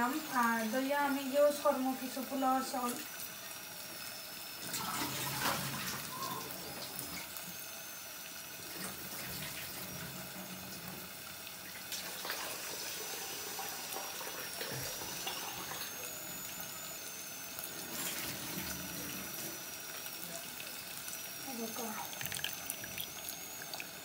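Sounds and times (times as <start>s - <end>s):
water running from tap: 0.0s - 24.0s.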